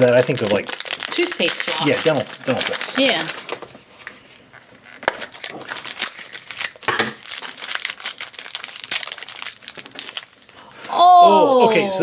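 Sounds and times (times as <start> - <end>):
foil wrapper crinkling: 0.0 - 10.6.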